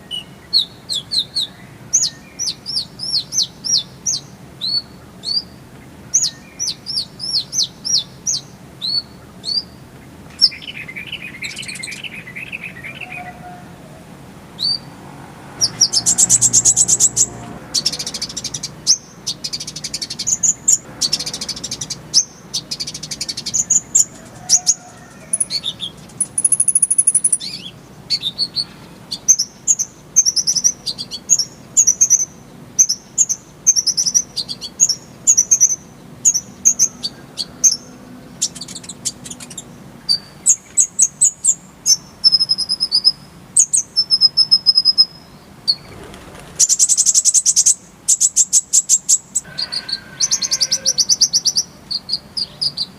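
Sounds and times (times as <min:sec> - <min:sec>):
sunbird singing buzzy trills: 0:00.0 - 0:13.6, 0:14.4 - 0:52.9.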